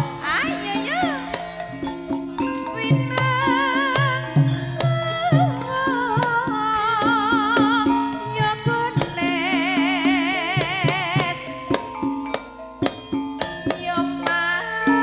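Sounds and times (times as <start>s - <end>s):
woman singing with vibrato: 0.0s - 2.0s, 2.6s - 12.0s, 13.6s - 15.0s
gamelan ensemble playing: 0.0s - 15.0s
low metallophone tones: 0.0s - 15.0s.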